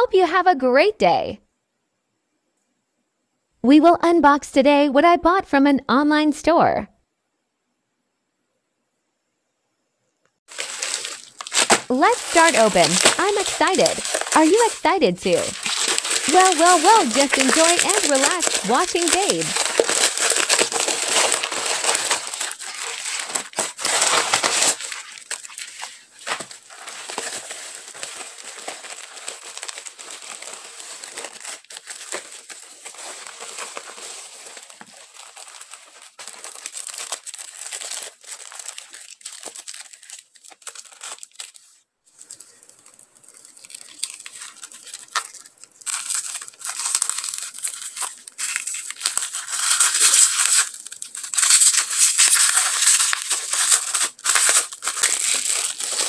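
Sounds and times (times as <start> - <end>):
plastic packaging crinkling: 10.5 - 56.0.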